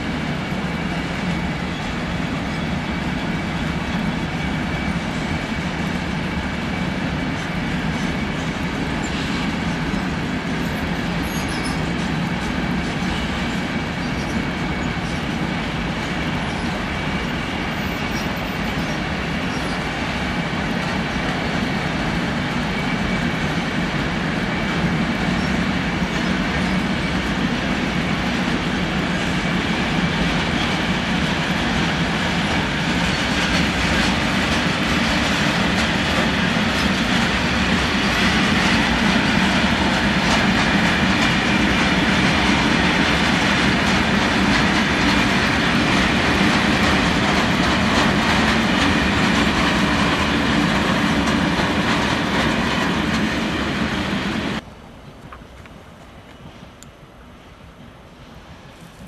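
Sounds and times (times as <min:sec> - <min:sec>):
freight train wheels rolling on rail: 0:00.0 - 0:59.0.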